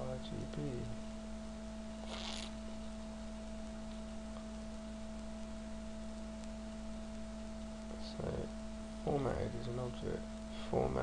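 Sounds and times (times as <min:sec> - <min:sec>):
two-tone electrical hum: 0:00.0 - 0:11.0.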